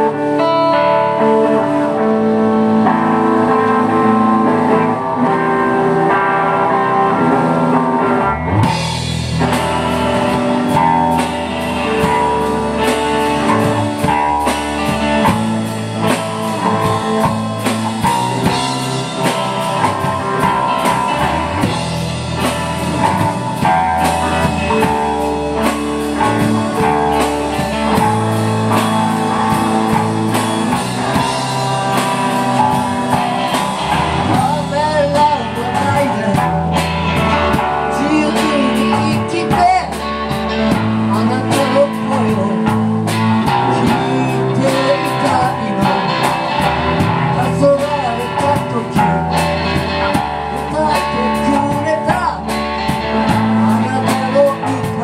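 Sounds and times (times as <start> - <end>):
bass guitar: 0.0 - 55.0
drum kit beat: 0.0 - 55.0
electric guitars: 0.0 - 55.0.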